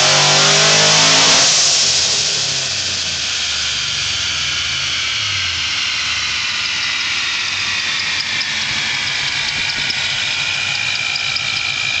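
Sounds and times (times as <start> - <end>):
supercharger whine: 0.0 - 12.0
car engine idling: 1.5 - 12.0.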